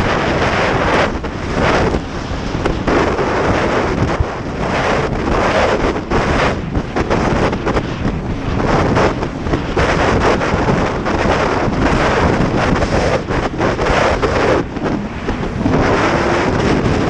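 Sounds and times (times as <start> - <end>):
rushing water: 0.0 - 17.0
watercraft engine running: 0.0 - 17.0
wind buffeting microphone: 0.0 - 17.0.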